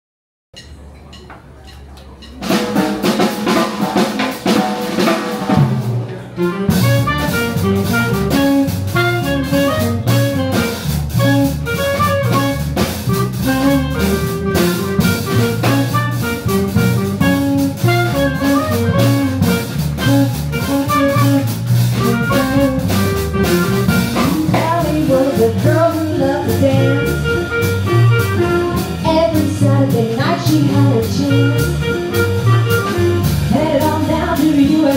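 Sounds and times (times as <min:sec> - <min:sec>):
drum kit rimshots: 0:00.6 - 0:34.9
swing band playing: 0:00.6 - 0:34.9
clarinet lead: 0:06.4 - 0:34.9.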